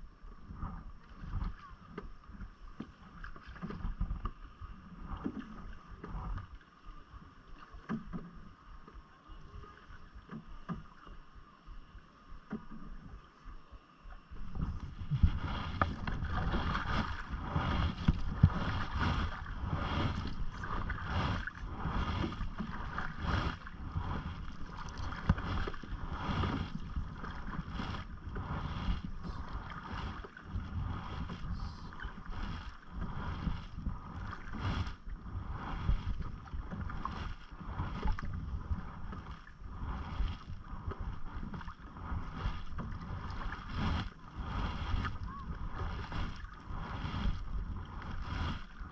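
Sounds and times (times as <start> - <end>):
wind rumble on microphone: 0.0 - 10.9, 14.3 - 48.9
water lapping at hull: 0.0 - 48.9
paddle splashing in water: 0.4 - 6.7, 7.5 - 8.5, 14.3 - 48.9.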